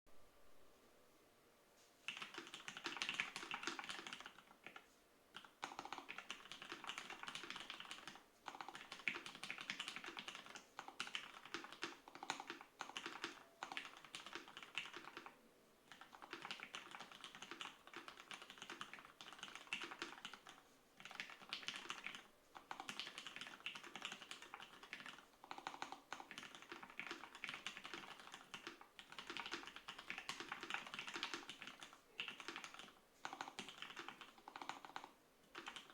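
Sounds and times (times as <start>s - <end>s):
mechanical keyboard typing: 2.1s - 4.8s, 5.4s - 15.3s, 15.9s - 35.9s.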